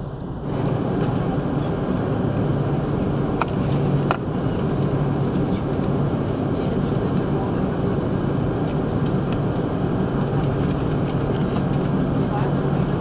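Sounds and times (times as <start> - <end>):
jet engines humming in cabin: 0.0 - 13.0.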